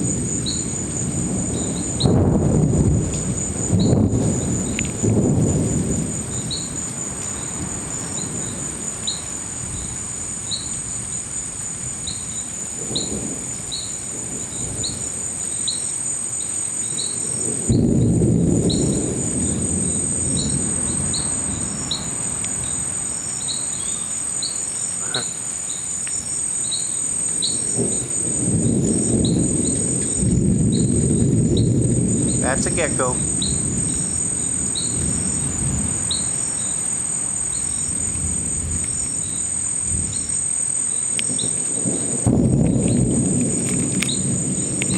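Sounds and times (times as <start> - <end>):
crickets chirping: 0.0 - 44.9
thunder rumbling: 0.0 - 44.9.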